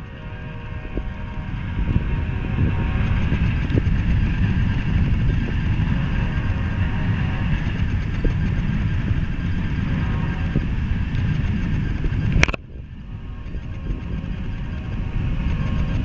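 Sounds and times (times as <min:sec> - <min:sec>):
freight train wheels rumbling on rails: 0:00.0 - 0:16.0.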